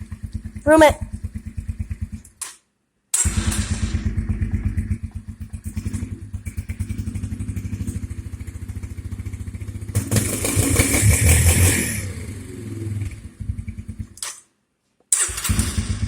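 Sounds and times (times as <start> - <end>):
dirt bike engine running: 0.0 - 2.4, 3.2 - 14.2.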